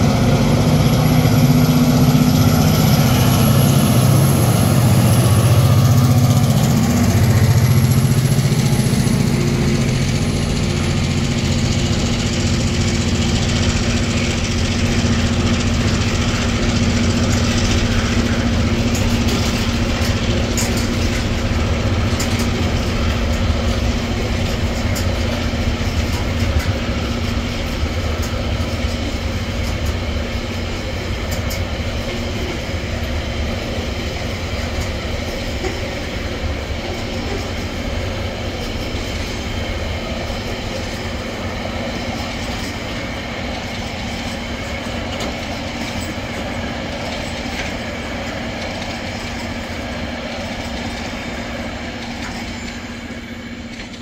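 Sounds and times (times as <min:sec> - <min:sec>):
locomotive engine drone and whine: 0:00.0 - 0:54.0
train wagons rumbling: 0:00.0 - 0:54.0.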